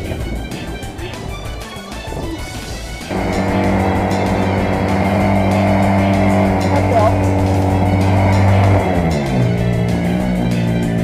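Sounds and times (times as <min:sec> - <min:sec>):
background music: 0:00.0 - 0:11.0
model boat engine running: 0:00.0 - 0:11.0.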